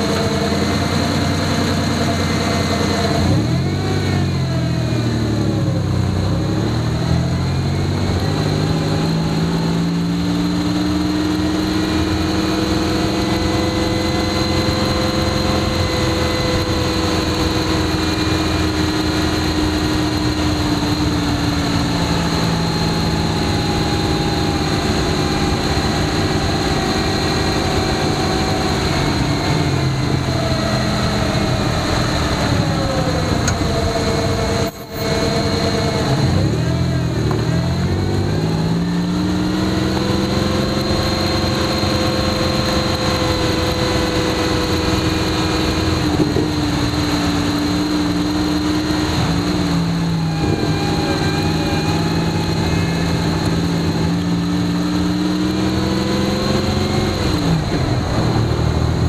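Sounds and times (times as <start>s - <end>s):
drivetrain hum: 0.0s - 59.0s
tyre and road roar: 0.0s - 59.0s.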